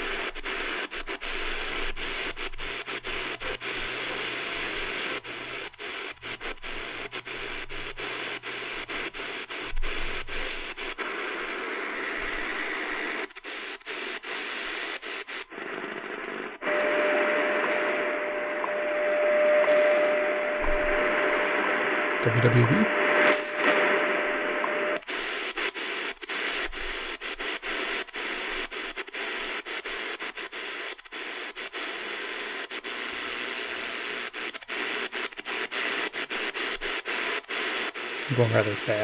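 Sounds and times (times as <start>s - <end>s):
radio static hissing: 0.0s - 39.0s
steady radio tone: 0.0s - 39.0s.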